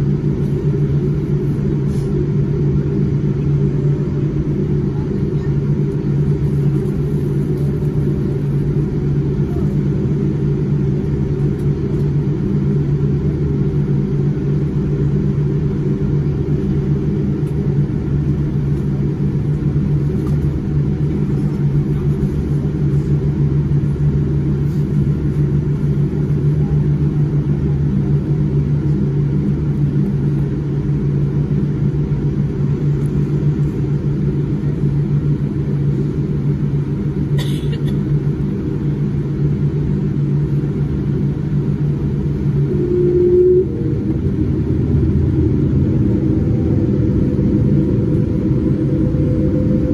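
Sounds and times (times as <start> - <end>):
jet engines humming in cabin: 0.0 - 49.9.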